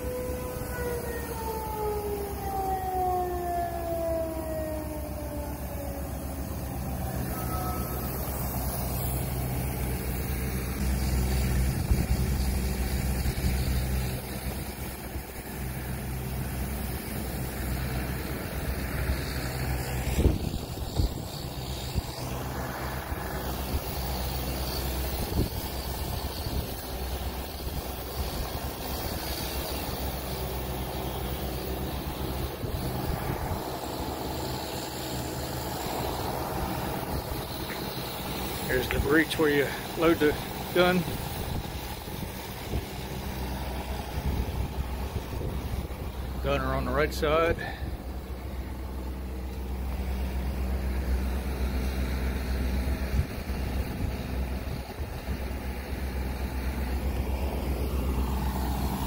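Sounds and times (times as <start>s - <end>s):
siren winding down: 0.0s - 59.0s
steady low rumble: 4.3s - 59.0s.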